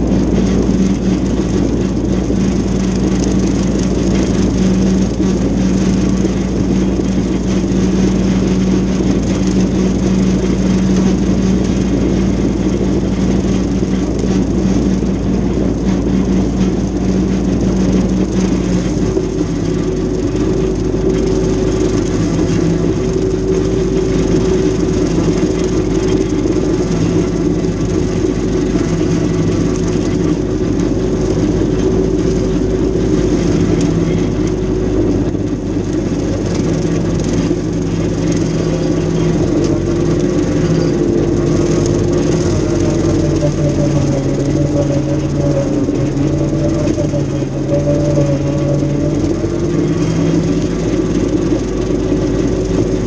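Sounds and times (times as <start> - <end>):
brush cutter mowing grass: 0.0 - 53.0
tractor diesel engine under load: 0.0 - 53.0.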